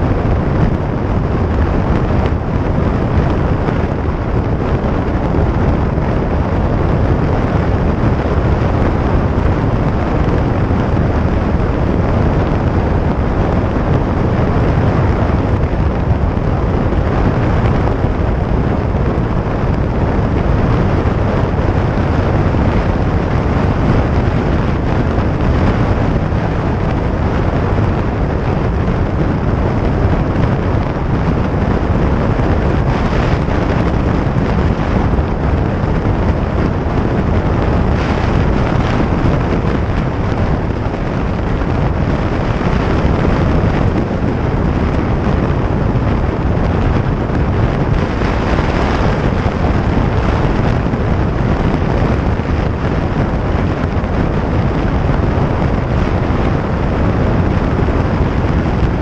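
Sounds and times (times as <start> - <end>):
road noise: 0.0 - 59.0
wind buffeting microphone: 0.0 - 59.0.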